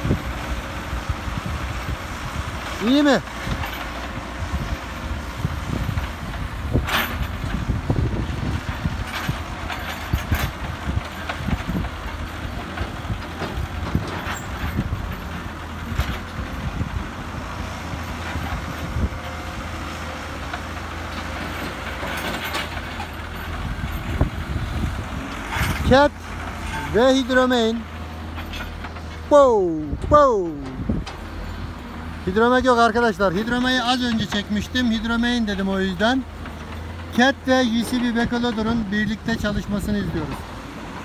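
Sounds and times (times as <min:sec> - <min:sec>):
diesel engine running under load: 0:00.0 - 0:41.0.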